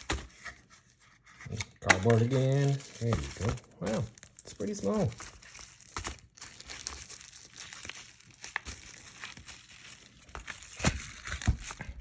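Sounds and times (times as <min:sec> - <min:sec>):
plastic wrapping crinkling: 0:01.9 - 0:12.0.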